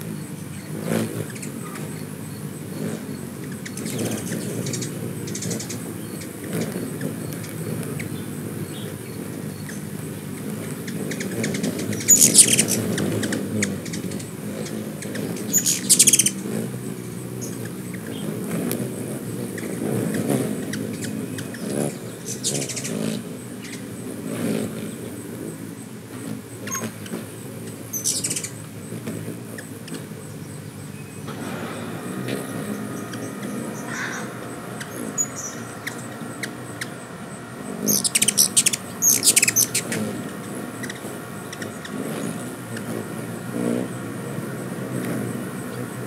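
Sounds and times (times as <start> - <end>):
hummingbirds chattering: 0.0 - 46.0
low wavering hum: 0.0 - 46.0.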